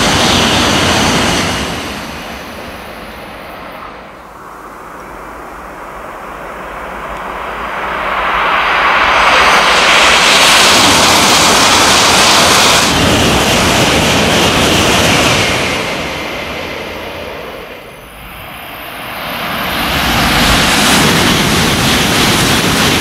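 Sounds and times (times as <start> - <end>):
train rushing past: 0.0 - 23.0.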